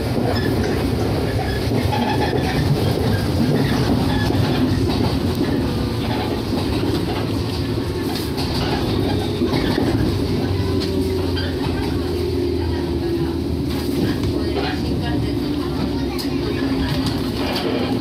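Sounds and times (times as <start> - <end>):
train motors running: 0.0 - 18.0
train wheels rumbling on rail: 0.0 - 18.0.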